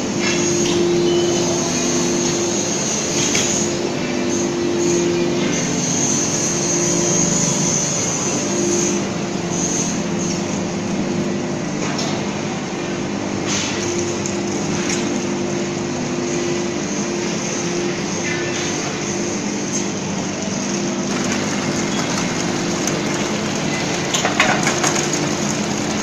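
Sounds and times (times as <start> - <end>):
factory machinery low hum: 0.0 - 26.0
high machine whine: 0.0 - 26.0.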